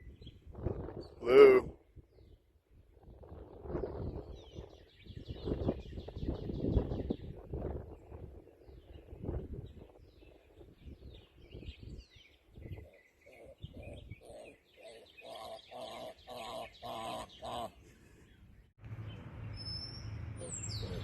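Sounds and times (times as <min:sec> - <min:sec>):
small birds chirping: 0:03.7 - 0:21.0.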